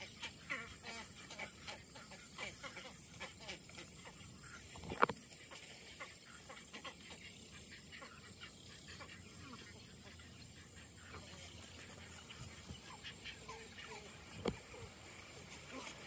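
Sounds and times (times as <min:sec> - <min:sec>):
ibises calling: 0:00.0 - 0:16.0.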